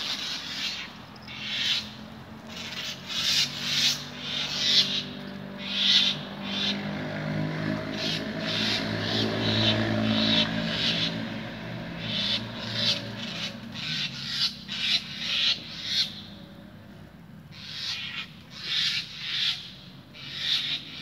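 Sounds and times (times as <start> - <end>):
bird harsh raspy calls: 0.0 - 16.6, 17.5 - 21.0.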